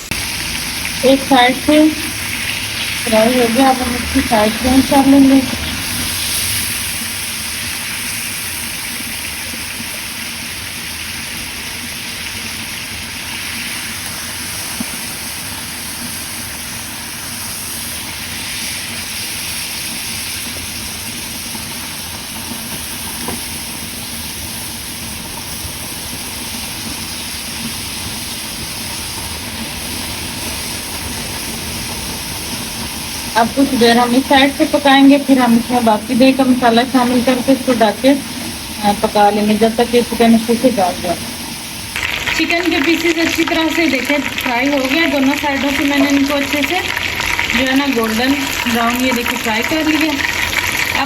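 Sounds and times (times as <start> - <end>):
chicken sizzling in oil: 0.0 - 51.0.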